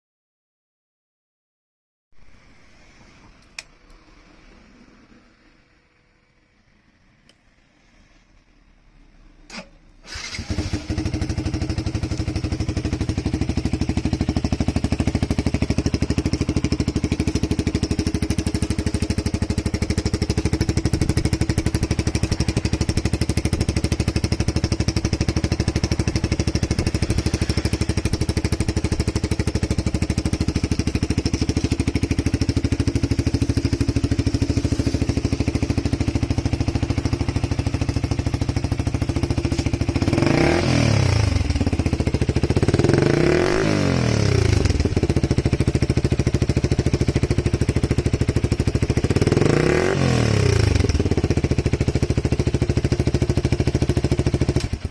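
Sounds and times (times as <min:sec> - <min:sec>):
motorcycle engine starting and idling: 0:03.2 - 0:54.9.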